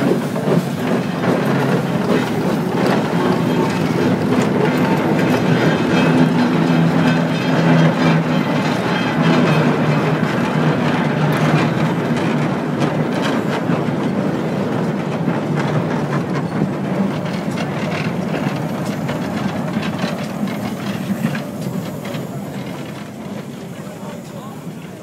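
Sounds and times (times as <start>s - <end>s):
train wheels clattering on rails: 0.0s - 25.0s.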